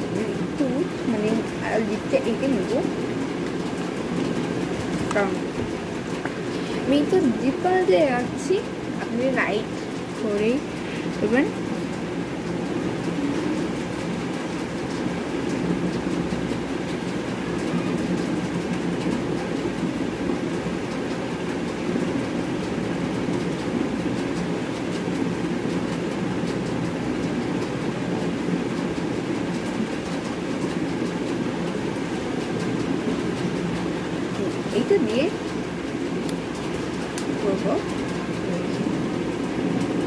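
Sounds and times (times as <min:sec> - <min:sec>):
low mechanical hum and rumble: 0:00.0 - 0:40.0.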